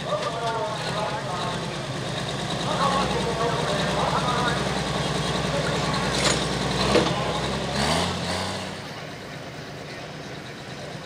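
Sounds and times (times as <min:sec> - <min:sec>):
heavy diesel engine idling: 0:00.0 - 0:11.0.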